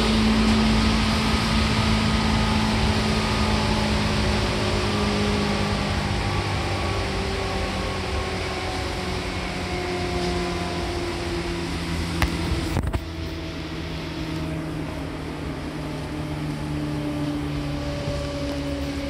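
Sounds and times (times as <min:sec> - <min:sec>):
train motor whine: 0:00.0 - 0:19.0
train wheels rumbling on rails: 0:00.0 - 0:19.0.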